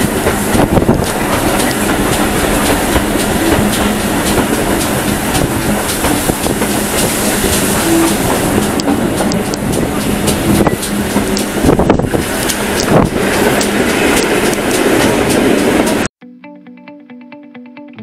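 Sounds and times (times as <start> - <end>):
steady train hum: 0.0 - 16.1
train wheels clicking over rails: 0.0 - 16.1.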